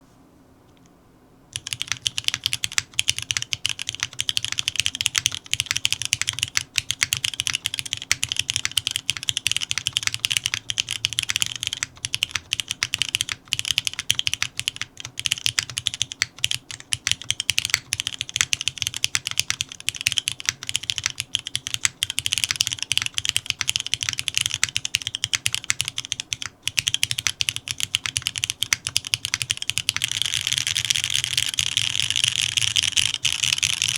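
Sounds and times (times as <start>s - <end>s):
fast typing on mechanical keyboard: 1.6s - 33.9s.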